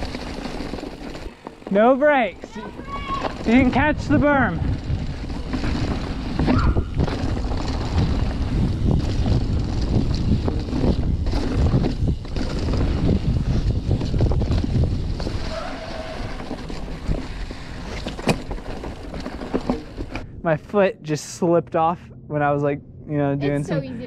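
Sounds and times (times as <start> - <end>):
bike rattling and knocking: 0.0 - 20.3
wind buffeting microphone: 0.0 - 24.0.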